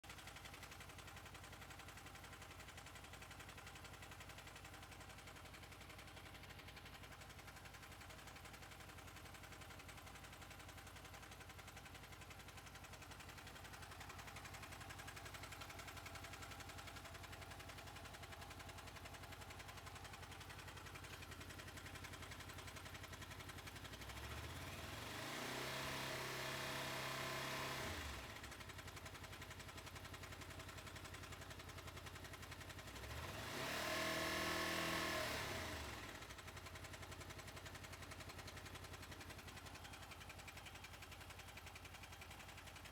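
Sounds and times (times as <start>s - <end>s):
motorcycle engine idling and revving: 0.0s - 42.9s
engine clicking: 0.1s - 24.4s, 28.0s - 33.2s, 35.8s - 42.9s.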